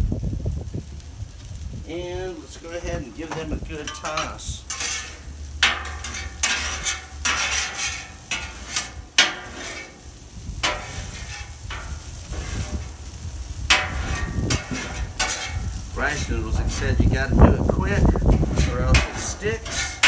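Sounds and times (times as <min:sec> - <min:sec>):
noodles sizzling in oil: 0:00.0 - 0:20.0
metal spatulas scraping griddle: 0:02.6 - 0:20.0.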